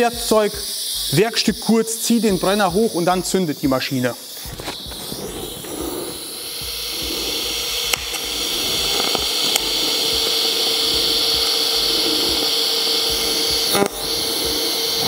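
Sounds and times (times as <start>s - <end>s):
welding arc crackles: 0.0s - 15.0s
welding arc hissing: 0.0s - 15.0s.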